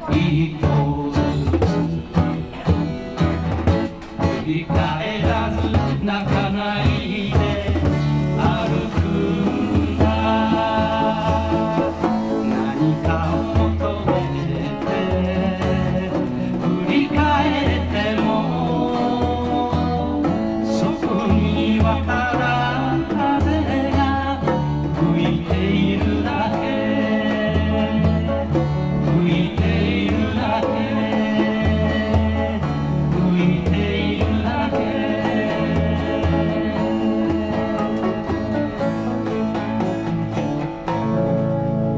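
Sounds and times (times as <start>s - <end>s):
man singing: 0.0s - 3.0s, 3.6s - 40.4s
acoustic guitar strumming: 0.0s - 41.9s
keyboard accompaniment: 0.0s - 41.9s.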